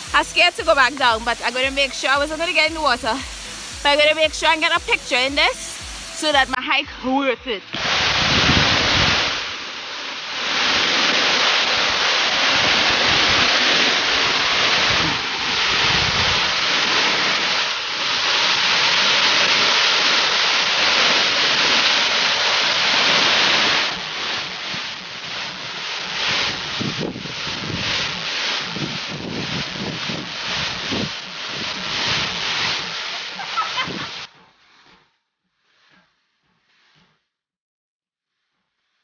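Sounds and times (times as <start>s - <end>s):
waterfall pouring onto rocks: 0.0s - 6.6s, 7.7s - 34.3s.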